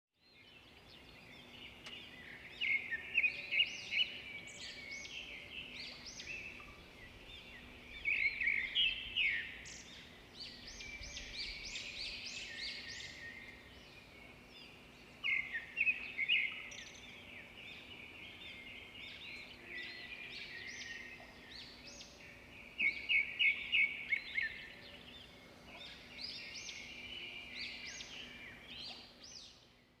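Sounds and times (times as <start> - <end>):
forest birds chirping: 0.2 - 30.0.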